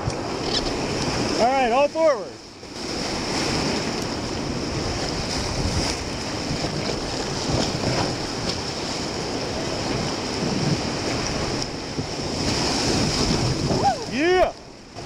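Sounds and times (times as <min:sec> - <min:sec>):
wind buffeting microphone: 0:00.0 - 0:01.4, 0:02.6 - 0:15.0
whitewater rushing: 0:00.0 - 0:15.0.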